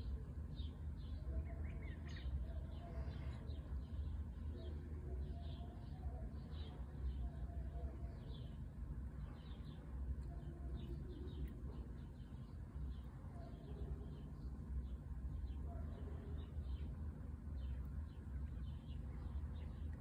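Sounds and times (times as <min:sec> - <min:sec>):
small songbirds chirping: 0:00.0 - 0:20.0
steady low rumble: 0:00.0 - 0:20.0.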